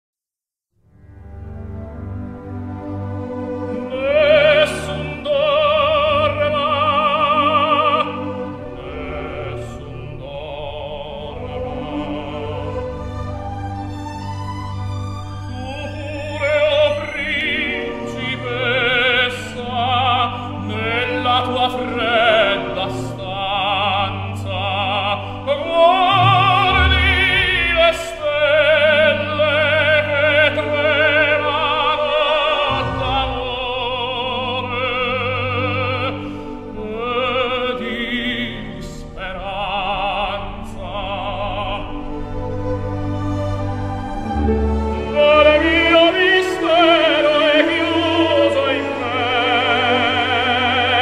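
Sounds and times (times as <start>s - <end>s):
orchestral accompaniment: 0.9s - 51.0s
operatic voice singing: 3.7s - 13.9s, 15.5s - 51.0s.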